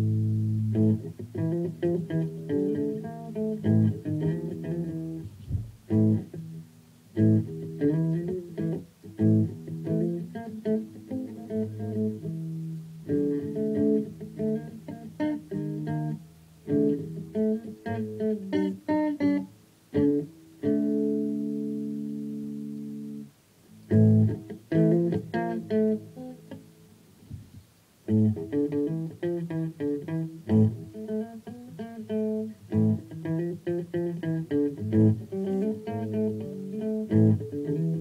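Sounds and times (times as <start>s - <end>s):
electric guitar playing: 0.0s - 27.1s, 28.0s - 38.0s.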